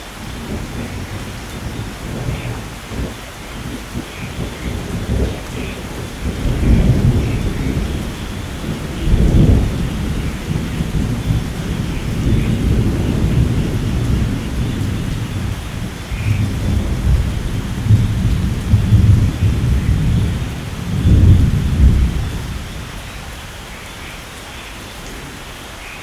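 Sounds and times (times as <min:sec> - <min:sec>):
steady rainfall: 0:00.0 - 0:26.0
low rolling thunder: 0:00.2 - 0:23.5.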